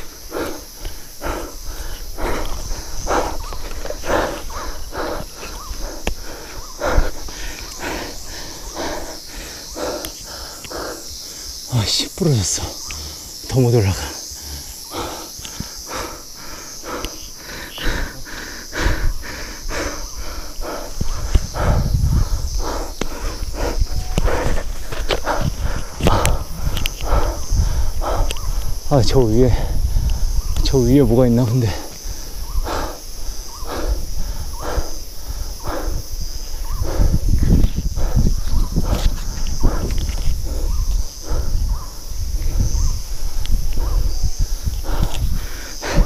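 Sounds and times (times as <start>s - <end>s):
person breathing hard: 0.0s - 30.6s, 31.6s - 46.0s
insects droning: 0.0s - 46.0s
short insect call: 0.0s - 46.0s.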